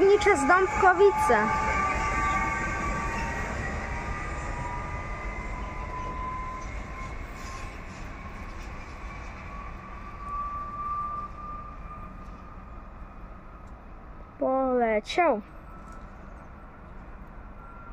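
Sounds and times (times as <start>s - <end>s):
electric train rumbling and whining: 0.0s - 17.9s.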